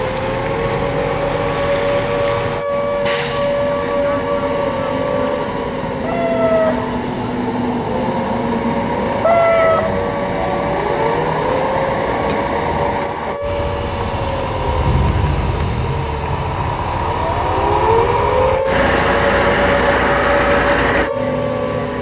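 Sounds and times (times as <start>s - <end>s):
emergency siren wailing: 0.0s - 22.0s
passing vehicle engine rumble: 0.0s - 22.0s.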